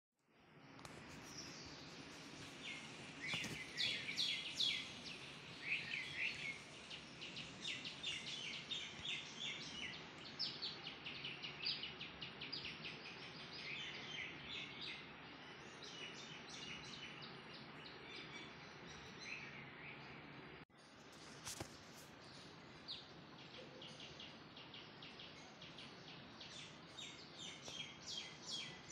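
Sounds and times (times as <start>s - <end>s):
outdoor background hiss: 0.2s - 28.9s
songbirds chirping and singing: 0.4s - 28.9s.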